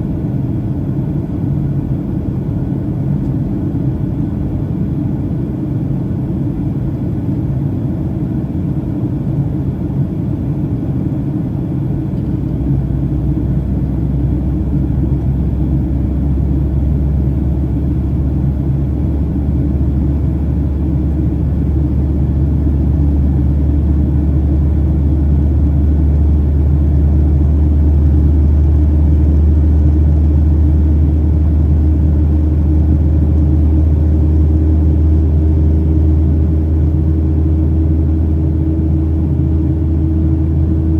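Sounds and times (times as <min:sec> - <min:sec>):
aircraft engines rumbling in cabin: 0:00.0 - 0:40.9
deep low drone: 0:00.0 - 0:40.9.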